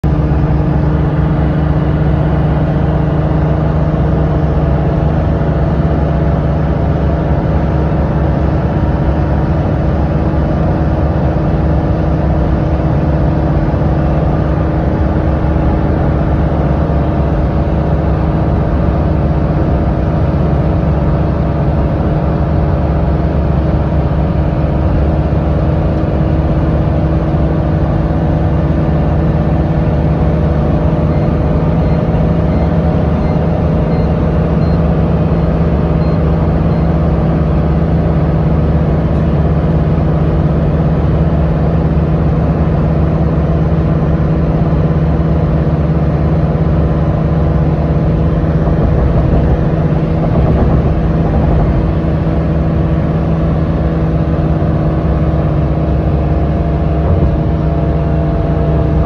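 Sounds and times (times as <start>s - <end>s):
road noise: 0.0s - 59.0s
vehicle engine drone: 0.0s - 59.0s.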